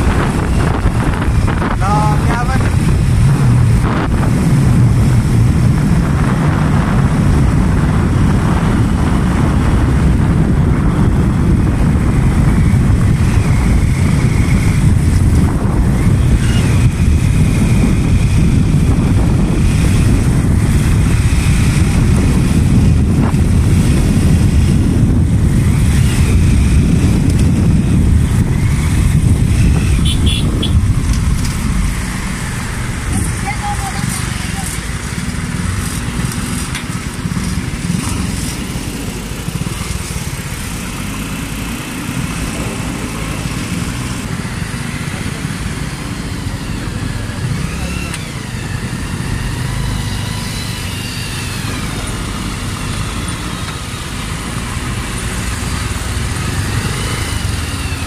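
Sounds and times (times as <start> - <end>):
motorcycle engine rumbling: 0.0 - 58.0
wind buffeting microphone: 0.0 - 58.0.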